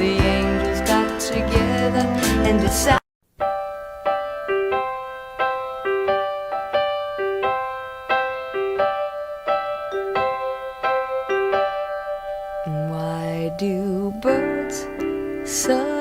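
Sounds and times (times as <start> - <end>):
electric piano chords: 0.0 - 16.0.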